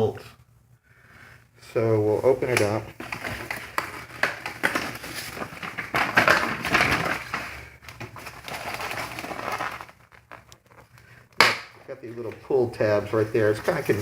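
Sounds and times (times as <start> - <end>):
packaging crackling and rustling: 2.2 - 14.0.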